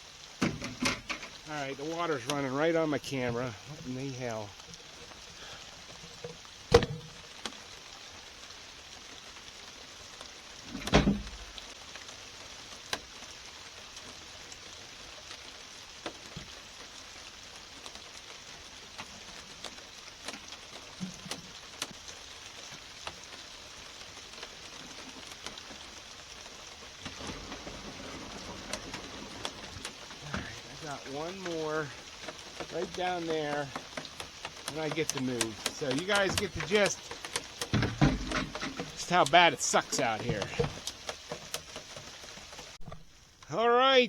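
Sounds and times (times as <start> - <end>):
raindrops ticking on camera: 0.0 - 43.6
steady rain falling: 0.0 - 44.0.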